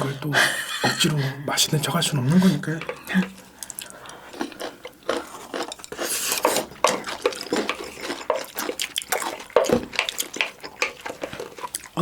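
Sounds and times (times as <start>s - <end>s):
wet eating sounds: 2.3s - 12.0s.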